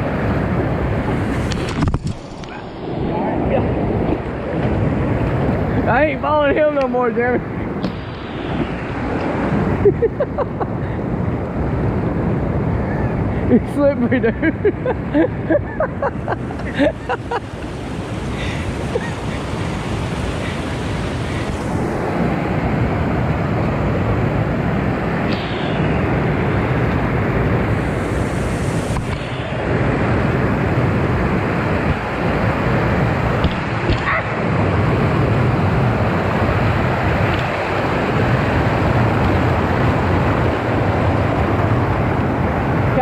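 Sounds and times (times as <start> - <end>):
fast-flowing water rushing: 0.0 - 9.9, 16.0 - 43.0.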